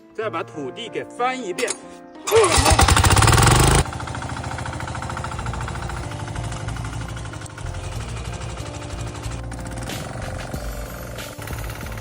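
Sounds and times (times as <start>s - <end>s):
rotary tiller engine running: 2.3s - 12.0s.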